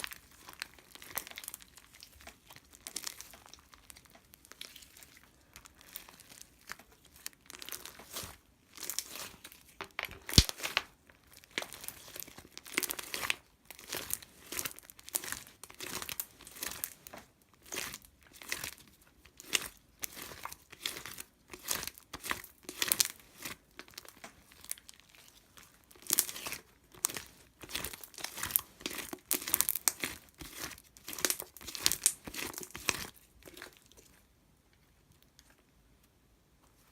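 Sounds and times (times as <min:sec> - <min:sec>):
crinkling and crumpling: 0:00.0 - 0:36.9.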